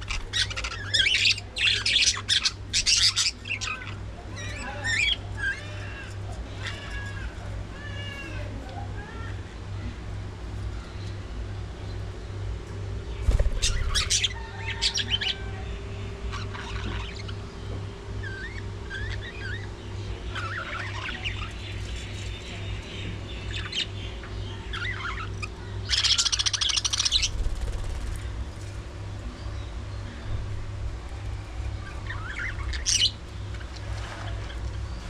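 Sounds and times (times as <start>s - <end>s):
budgerigars chirping and squawking: 0.0s - 8.5s, 13.1s - 30.6s, 31.6s - 35.0s
steady low hum: 0.0s - 35.0s.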